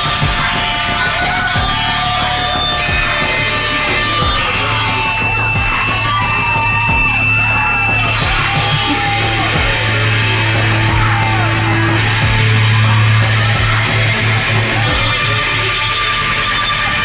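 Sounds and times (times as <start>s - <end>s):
sustained bass note: 0.0s - 16.5s
heavy rock band playing: 0.0s - 17.0s
screamed vocals: 0.0s - 17.0s.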